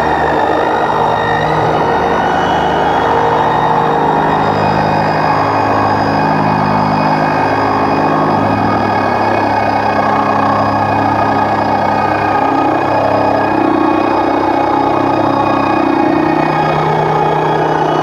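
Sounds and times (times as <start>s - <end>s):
organ-style keyboard drone: 0.0s - 18.0s.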